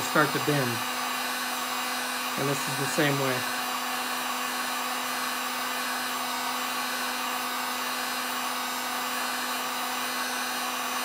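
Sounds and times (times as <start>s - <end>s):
heat gun blowing air: 0.0s - 11.0s.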